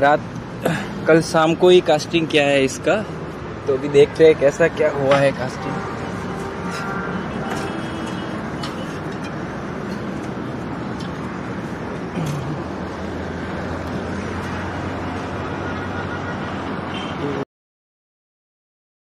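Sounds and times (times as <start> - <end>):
outdoor background noise: 0.0 - 17.4
low engine-like hum: 0.3 - 17.0.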